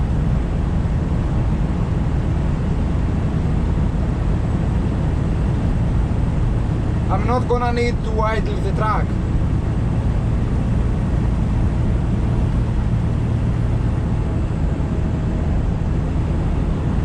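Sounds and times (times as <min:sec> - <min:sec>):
diesel engine drone: 0:00.0 - 0:17.0
road noise: 0:00.0 - 0:17.0.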